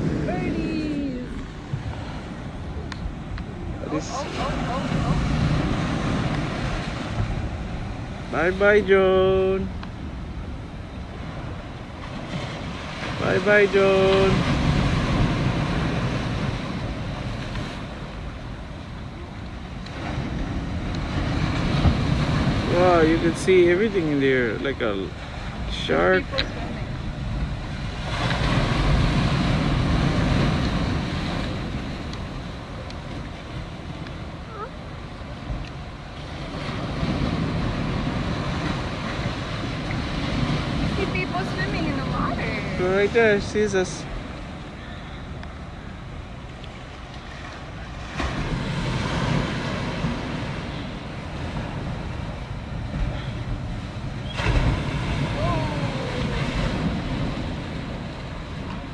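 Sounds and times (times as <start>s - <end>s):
ocean surf: 0.0s - 58.9s
wind on microphone: 0.0s - 58.9s.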